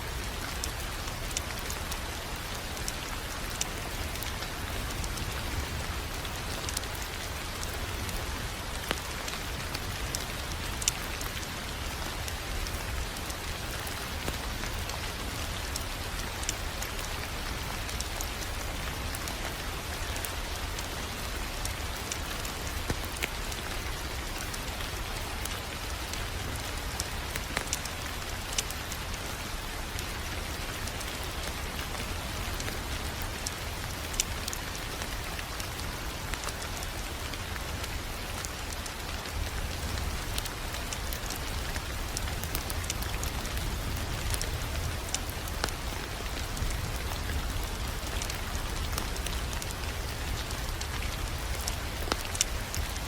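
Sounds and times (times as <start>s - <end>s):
wood fire crackling: 0.1s - 53.0s.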